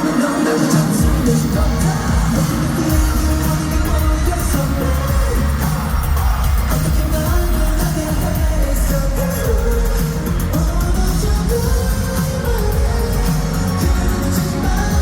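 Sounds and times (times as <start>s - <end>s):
live pop music with singing: 0.0s - 15.0s.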